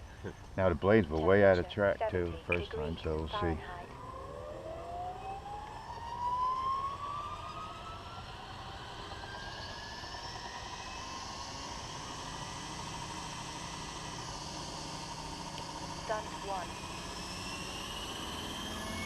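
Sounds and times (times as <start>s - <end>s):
model helicopter whine: 0.0s - 19.0s.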